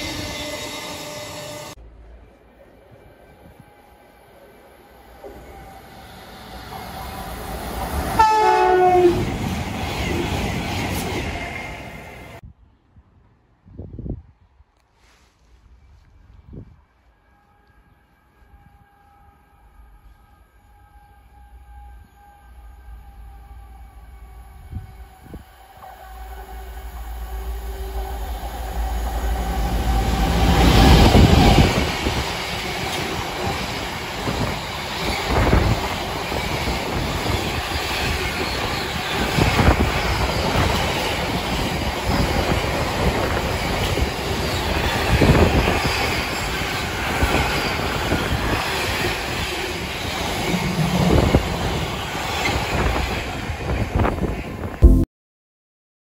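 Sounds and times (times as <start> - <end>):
freight train passing: 0.0 - 14.2, 15.9 - 54.8.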